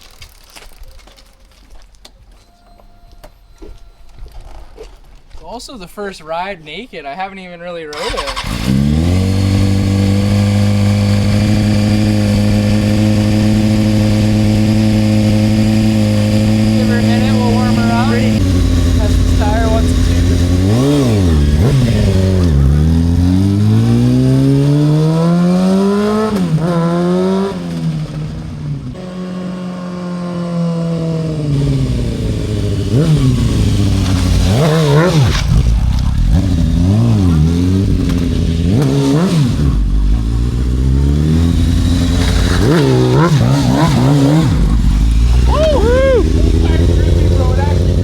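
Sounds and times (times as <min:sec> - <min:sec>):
motorcycle engine revving: 0:07.9 - 0:48.0.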